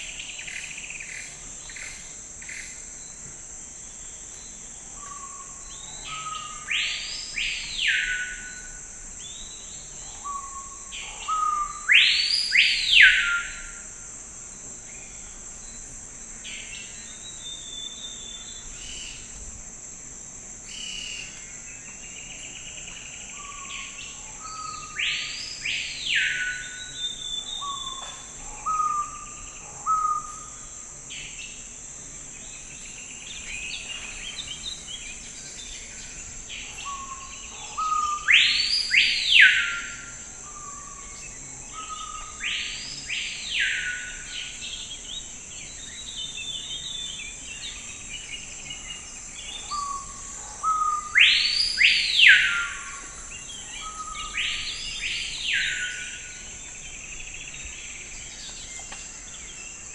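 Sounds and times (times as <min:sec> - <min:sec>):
high insect drone: 0:00.0 - 0:59.9
songbird singing: 0:03.9 - 0:13.9, 0:20.6 - 0:59.9.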